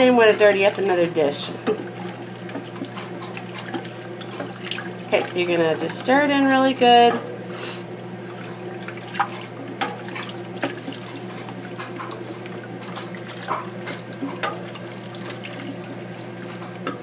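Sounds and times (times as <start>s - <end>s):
steady low hum: 0.0s - 17.0s
milk swishing in a pot: 1.8s - 6.8s, 8.0s - 16.8s.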